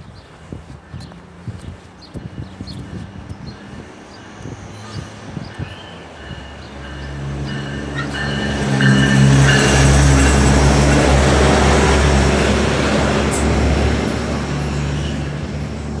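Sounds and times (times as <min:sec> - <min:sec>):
train engine hum: 0:00.0 - 0:16.0
wheel and rail noise: 0:00.0 - 0:16.0.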